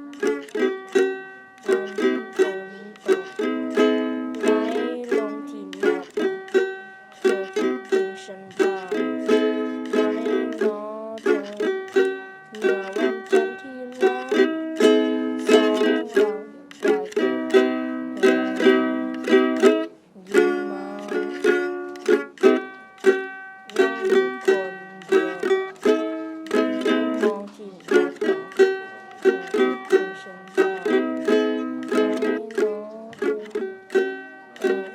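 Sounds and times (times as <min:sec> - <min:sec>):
ukulele strumming: 0:00.0 - 0:34.9.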